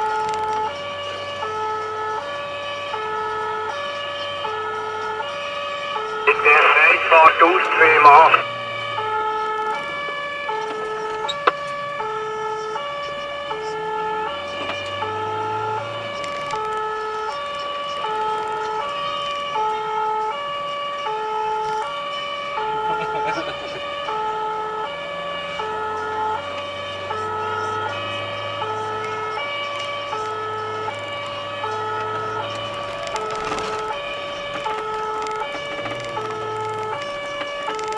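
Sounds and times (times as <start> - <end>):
engine and road noise: 0.0 - 37.9
two-tone emergency siren: 0.0 - 37.9.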